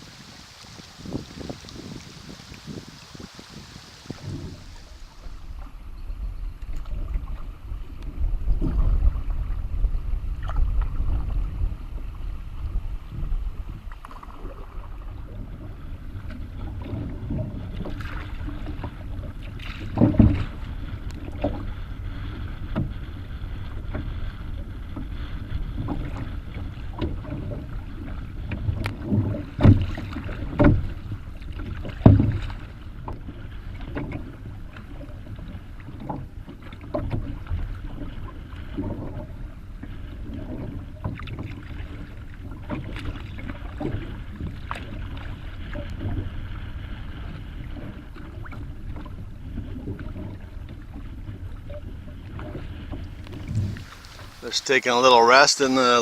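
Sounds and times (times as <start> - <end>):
water splashing around canoe: 0.0 - 56.0
wind rumbling on microphone: 0.0 - 56.0.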